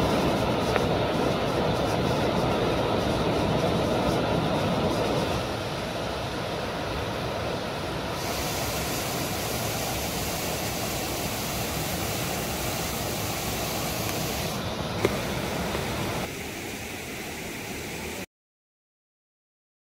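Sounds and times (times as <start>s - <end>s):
waterfall and stream rushing: 0.0s - 18.3s.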